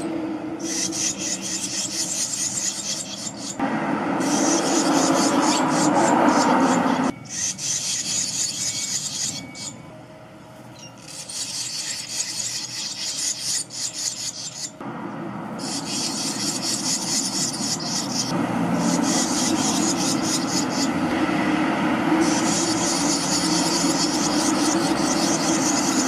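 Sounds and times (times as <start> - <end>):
nestlings raspy begging chatter: 0.0 - 3.6, 4.2 - 9.8, 10.8 - 14.8, 15.6 - 21.1, 22.1 - 26.0.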